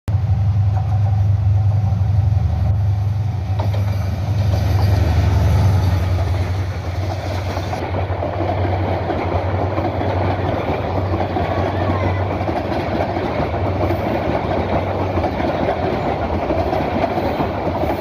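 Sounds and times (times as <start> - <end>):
train rumbling: 0.1 - 18.0.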